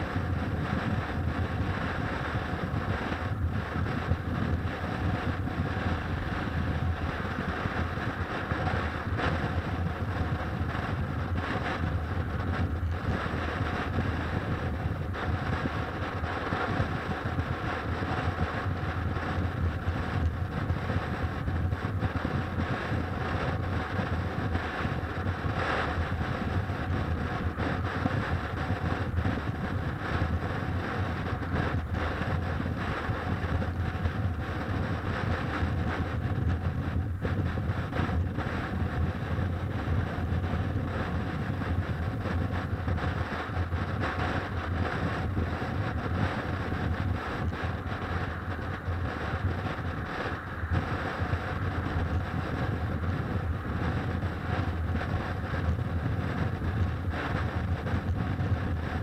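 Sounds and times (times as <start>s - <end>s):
motorcycle engine and road drone: 0.0s - 59.0s
wind noise on microphone: 0.0s - 59.0s.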